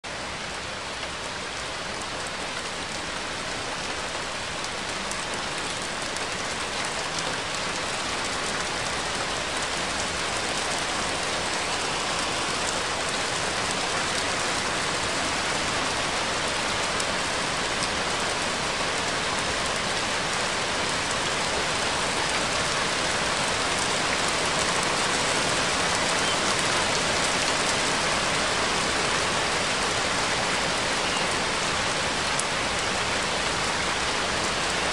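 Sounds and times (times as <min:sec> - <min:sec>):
steady dense rain: 0:00.0 - 0:34.9.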